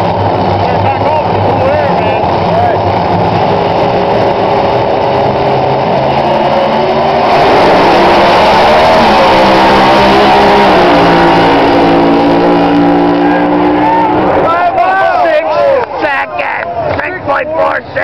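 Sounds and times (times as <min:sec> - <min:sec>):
drag racing car engines: 0:00.0 - 0:18.0.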